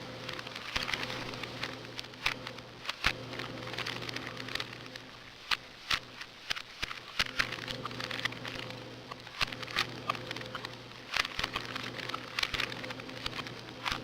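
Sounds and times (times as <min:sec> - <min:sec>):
low electrical hum: 0:00.0 - 0:14.0
puzzle cube plastic clicking: 0:00.2 - 0:14.0.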